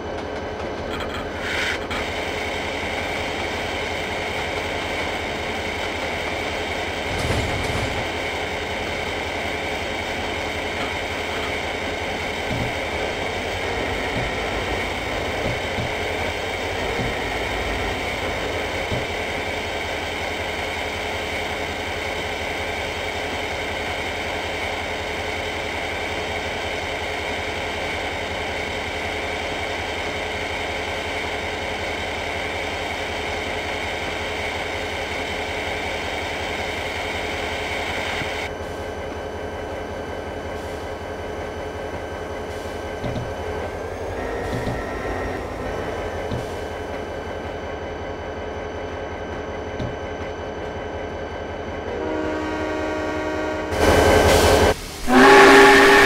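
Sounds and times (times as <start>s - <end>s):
machine running with hum and whine: 0.9s - 25.5s, 33.9s - 56.0s.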